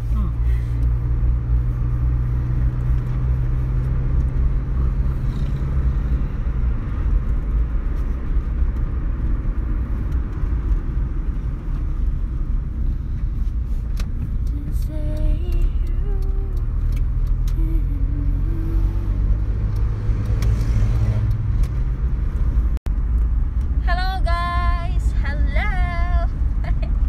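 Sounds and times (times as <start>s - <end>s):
car road rumble: 0.0s - 27.0s
low hum: 0.0s - 27.0s.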